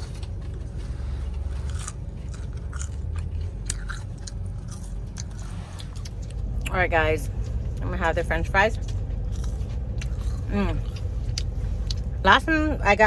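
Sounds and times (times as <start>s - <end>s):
person chewing and crunching food: 0.0s - 12.2s
steady low hum: 0.0s - 13.0s.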